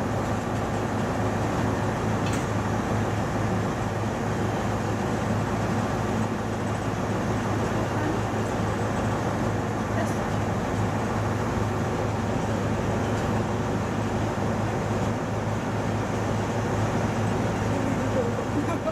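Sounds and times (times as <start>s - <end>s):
constant low hum: 0.0s - 18.9s.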